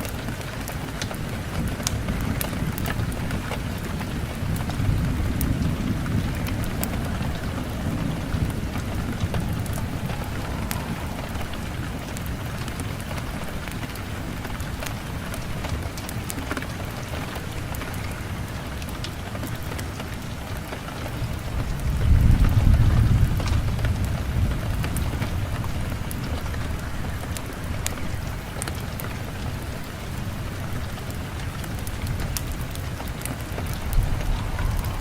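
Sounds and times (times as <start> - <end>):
raindrop ticks: 0.0 - 35.0
steady rainfall: 0.0 - 35.0
thunder rumbling: 0.0 - 35.0.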